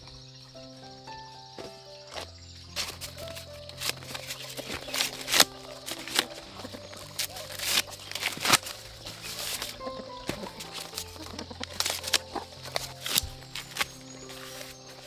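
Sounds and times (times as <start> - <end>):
soft background music: 0.0 - 15.0
corn husks crackling and snapping: 1.2 - 15.0.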